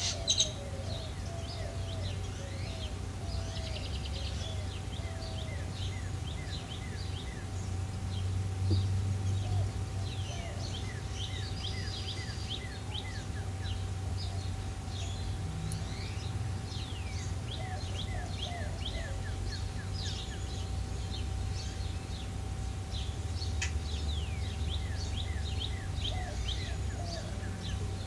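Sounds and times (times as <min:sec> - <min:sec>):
faint steady hum: 0:00.0 - 0:28.0
low outdoor rumble: 0:00.0 - 0:28.0
small birds chirping: 0:00.0 - 0:28.0.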